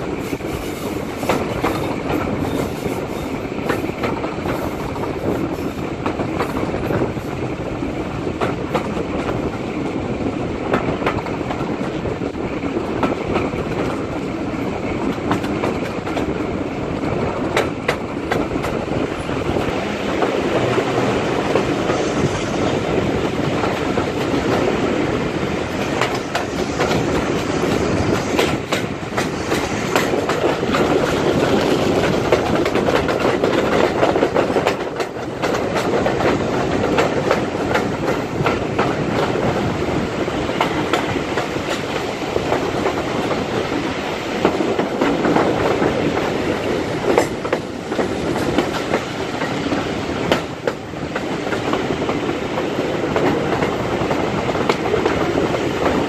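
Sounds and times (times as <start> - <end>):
wheels clicking on rails: 0.0 - 24.8, 25.6 - 56.0
train rumbling: 0.0 - 56.0.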